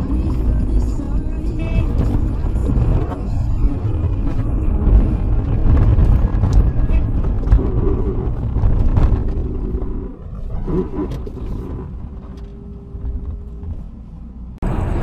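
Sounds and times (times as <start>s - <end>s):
quiet car engine and cabin: 0.0s - 15.0s.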